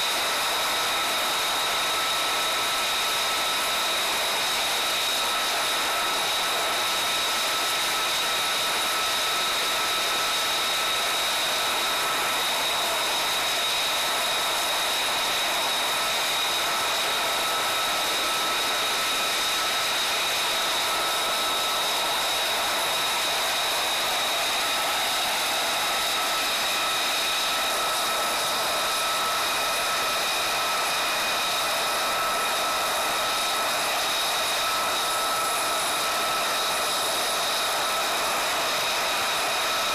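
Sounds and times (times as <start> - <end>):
jet turbine whine: 0.0 - 39.9.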